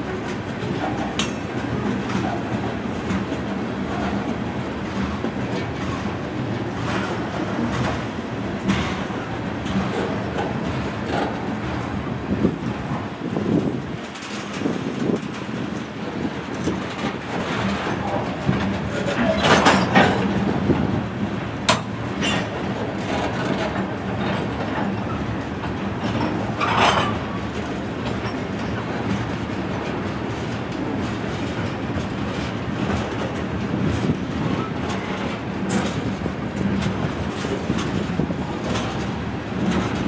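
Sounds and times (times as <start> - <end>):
steel wheels running on rails: 0.0 - 40.0.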